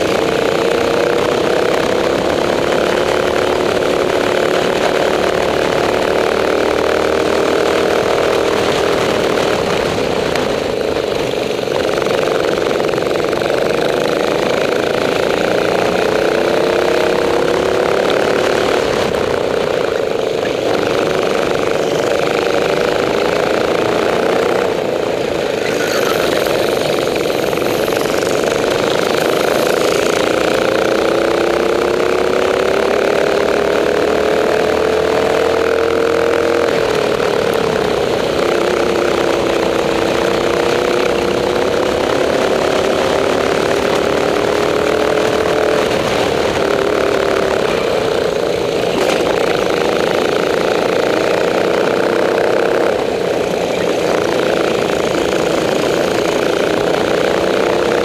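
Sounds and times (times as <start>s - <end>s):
go-kart engine: 0.0s - 58.0s.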